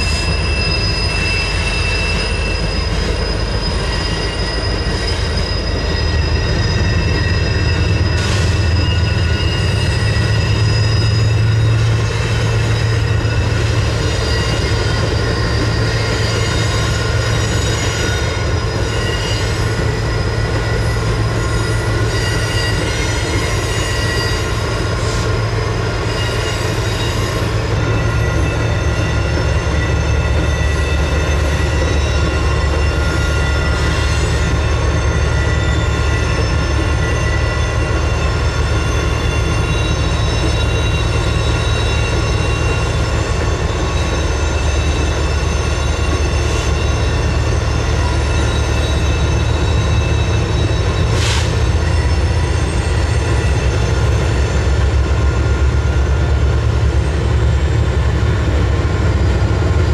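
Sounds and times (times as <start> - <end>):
high-pitched wheel squeals: 0.0 - 59.9
low rumble of train wheels: 0.0 - 59.9.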